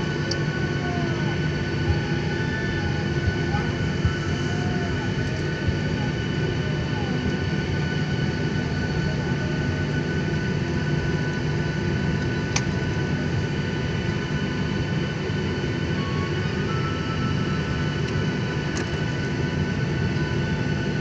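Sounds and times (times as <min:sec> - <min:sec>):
jet engines humming and whining: 0:00.0 - 0:21.0.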